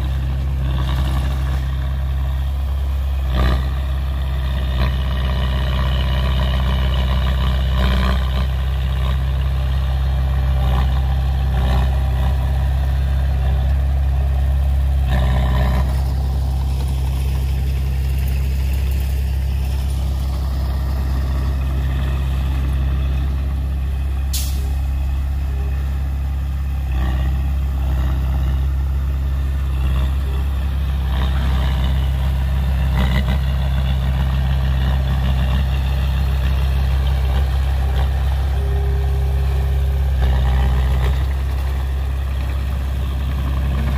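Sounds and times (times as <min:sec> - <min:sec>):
heavy diesel engine droning: 0:00.0 - 0:43.9.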